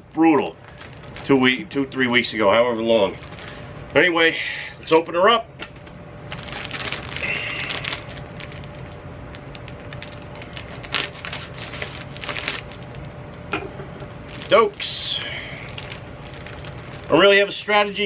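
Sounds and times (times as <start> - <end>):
plastic bag crinkling: 0.2 - 3.7, 4.9 - 13.1, 14.1 - 18.0.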